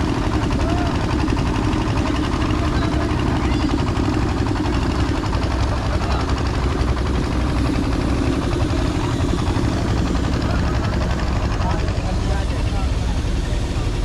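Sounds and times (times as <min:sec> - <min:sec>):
engine chugging: 0:00.0 - 0:14.0.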